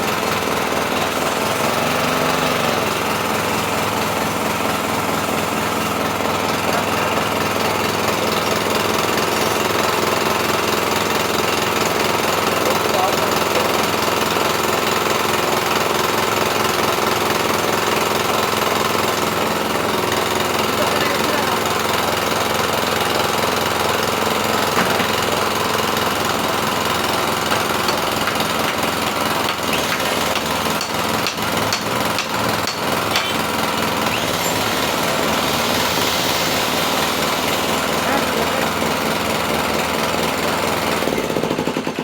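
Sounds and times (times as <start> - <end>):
brush cutter engine running: 0.0 - 42.0.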